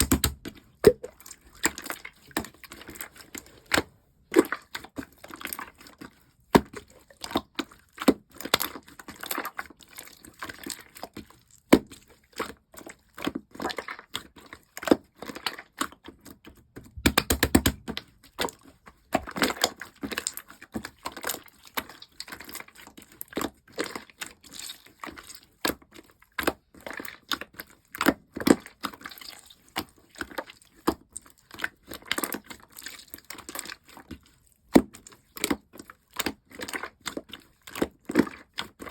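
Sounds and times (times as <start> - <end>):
slime squishing with sticky clicks: 0.0 - 38.9.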